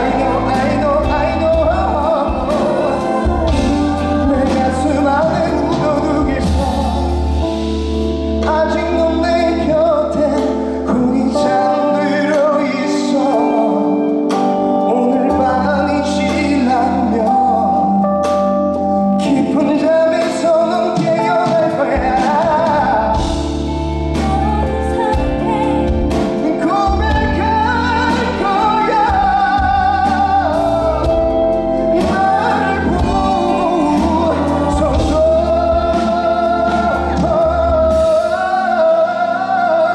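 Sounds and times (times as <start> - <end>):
bass line: 0.0 - 13.5, 14.5 - 39.9
man singing: 0.0 - 18.2, 19.2 - 39.9
instrumental accompaniment: 0.0 - 39.9.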